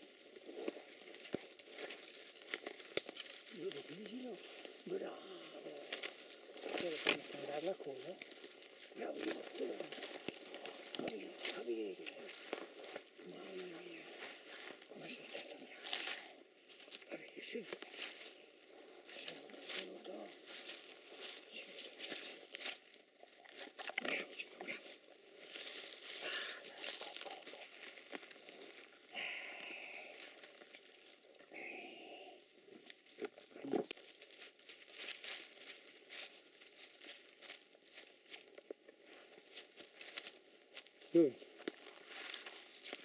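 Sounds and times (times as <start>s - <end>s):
dry leaves rustling and crunching: 0.0s - 43.0s.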